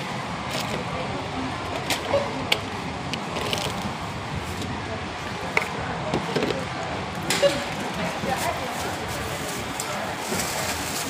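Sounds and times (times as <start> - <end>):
faint voices: 0.0 - 11.0
groceries knocking and clicking: 0.0 - 11.0
store hum: 0.0 - 11.0.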